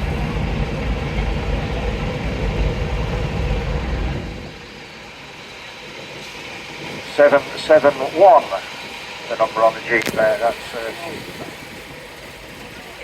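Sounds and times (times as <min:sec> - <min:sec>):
vintage vehicle engine running: 0:00.0 - 0:04.7, 0:05.8 - 0:13.0.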